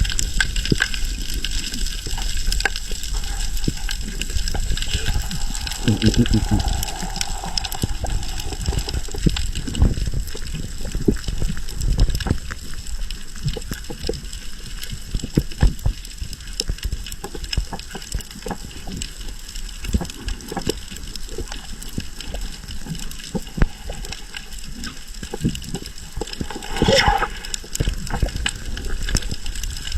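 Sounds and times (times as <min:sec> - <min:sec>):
crackling clicks: 0:00.0 - 0:29.9
underwater rumble: 0:00.0 - 0:29.9.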